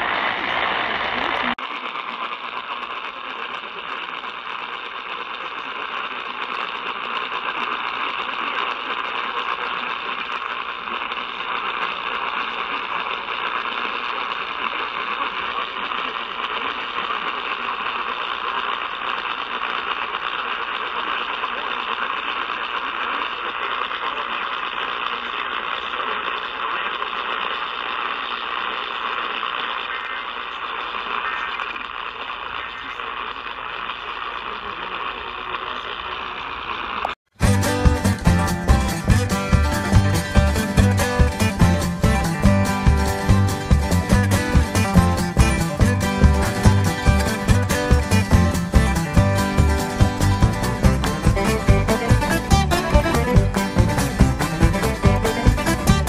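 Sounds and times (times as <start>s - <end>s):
faint crackles: 0.0s - 56.0s
faint steady whine: 0.0s - 56.0s
radio static hiss: 0.0s - 56.0s.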